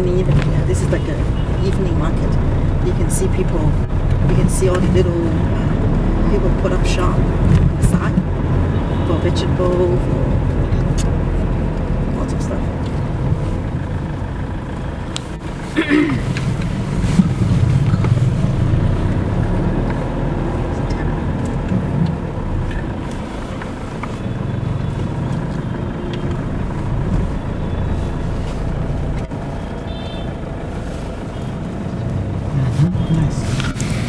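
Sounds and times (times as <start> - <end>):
car engine and road rumble: 0.0 - 34.0
motorbikes: 0.0 - 34.0
street noise: 0.0 - 34.0.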